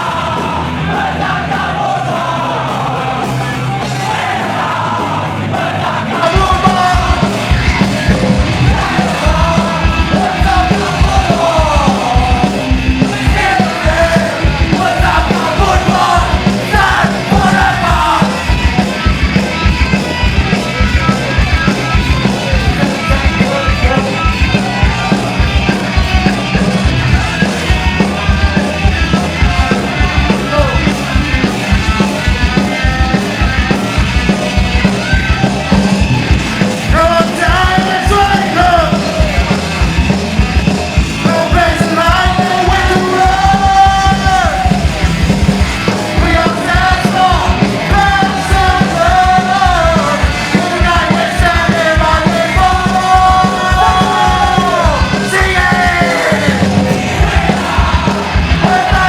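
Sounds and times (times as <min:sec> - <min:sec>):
punk rock band playing: 0:00.0 - 0:59.0
shouted vocals: 0:00.0 - 0:59.0.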